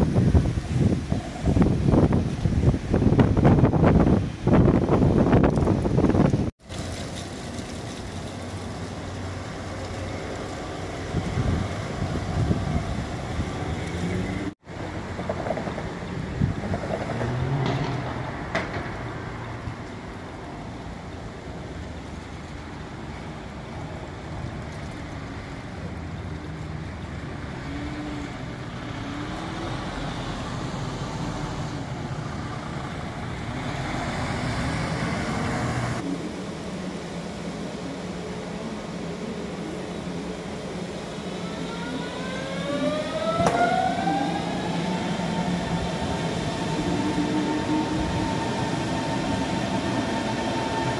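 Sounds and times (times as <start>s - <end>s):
electric tram motor hum and whine: 7.5s - 50.9s.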